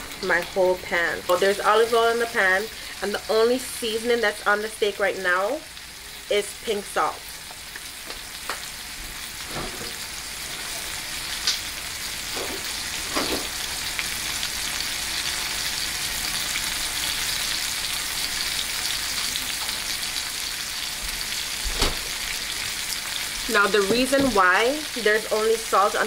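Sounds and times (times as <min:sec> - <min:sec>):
steak sizzling in a frying pan: 0:00.0 - 0:26.0.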